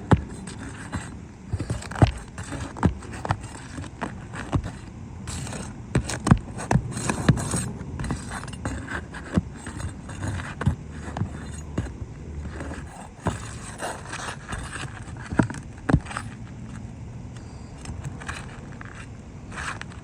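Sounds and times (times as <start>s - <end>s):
crowbar scraping shingles: 0.0s - 16.8s, 17.4s - 20.0s.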